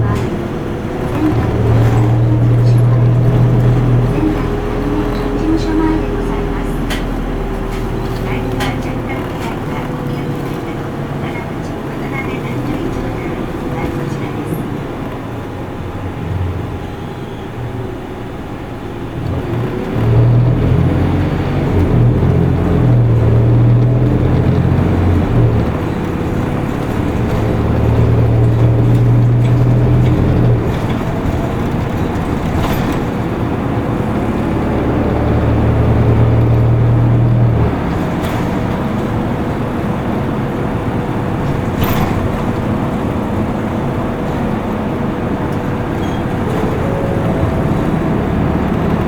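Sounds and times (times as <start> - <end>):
bus engine pulling hard: 0.0 - 49.0
road noise: 0.0 - 49.0.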